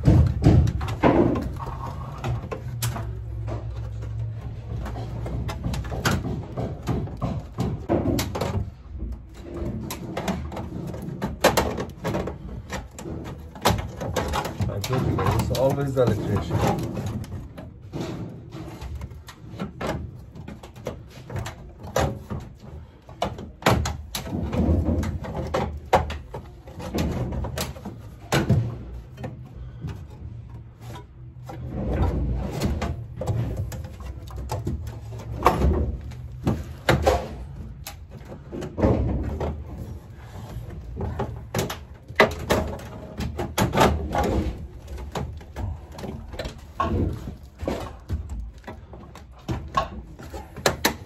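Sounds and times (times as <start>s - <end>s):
dull thumps: 0.0s - 51.0s.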